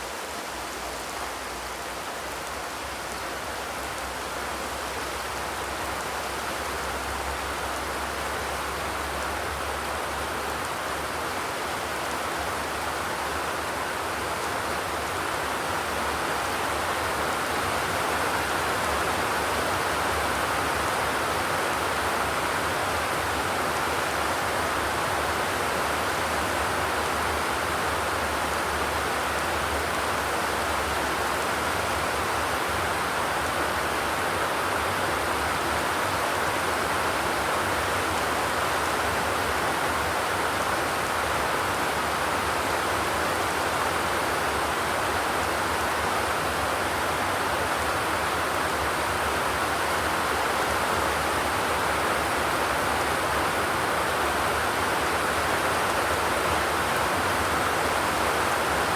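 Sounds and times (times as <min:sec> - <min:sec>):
rain on a metal roof: 0:00.0 - 0:58.9.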